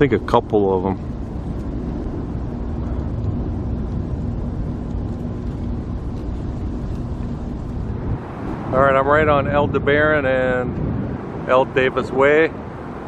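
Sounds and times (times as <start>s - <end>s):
faint constant hum: 0.0s - 13.0s
low vehicle rumble: 0.0s - 13.0s.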